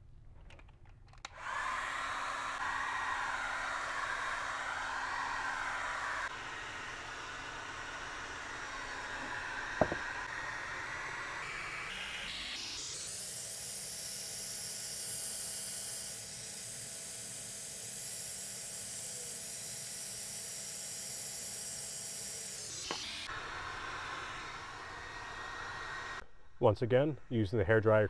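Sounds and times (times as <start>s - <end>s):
hair dryer blowing: 1.3s - 14.3s, 15.7s - 26.3s.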